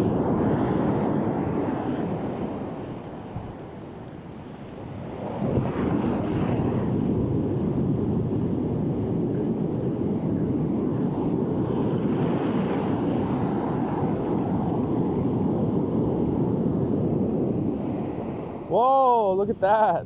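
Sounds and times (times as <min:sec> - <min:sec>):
wind noise on microphone: 0:00.0 - 0:18.8
ocean surf washing up beach: 0:00.0 - 0:20.0.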